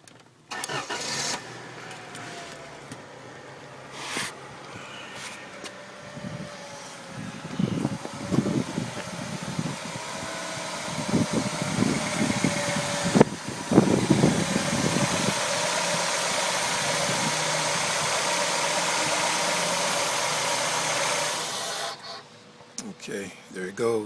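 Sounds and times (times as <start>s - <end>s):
car engine idling: 0.3s - 23.2s.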